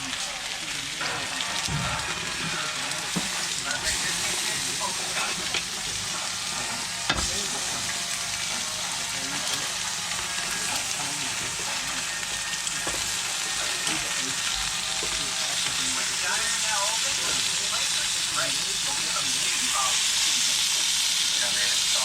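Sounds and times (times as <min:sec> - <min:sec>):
bacon sizzling on a hotplate: 0:00.0 - 0:22.0.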